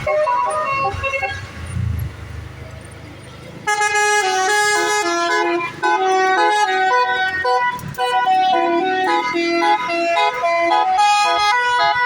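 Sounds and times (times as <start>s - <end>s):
melodic bus air horn: 0.0s - 1.6s, 3.6s - 12.0s.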